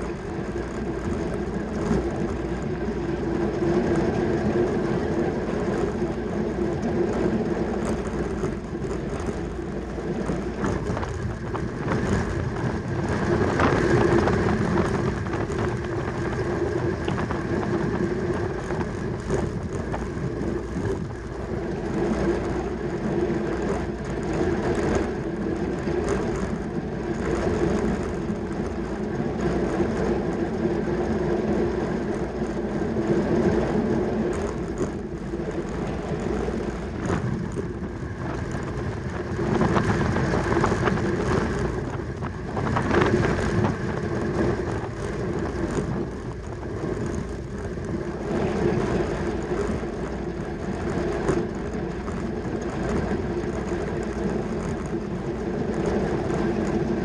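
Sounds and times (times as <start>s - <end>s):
bicycle chain and tyres whirring: 0.0s - 57.0s
wind noise: 0.0s - 57.0s.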